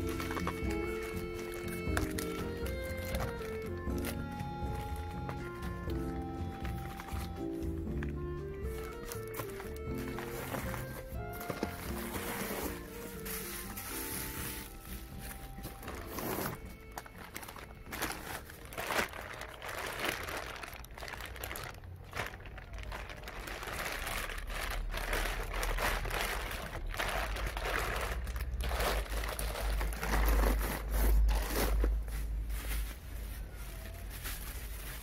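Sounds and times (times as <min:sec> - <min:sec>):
bubble wrap crumpling: 0:00.0 - 0:35.0
plastic sheeting rustling: 0:00.0 - 0:35.0.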